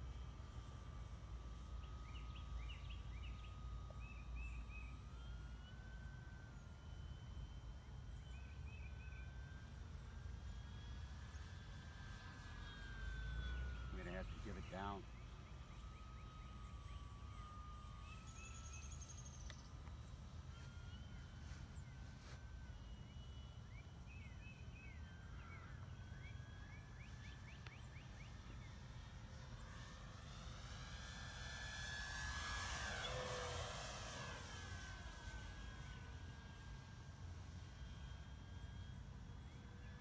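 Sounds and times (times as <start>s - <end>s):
model plane electric motor whine: 0.0s - 40.0s.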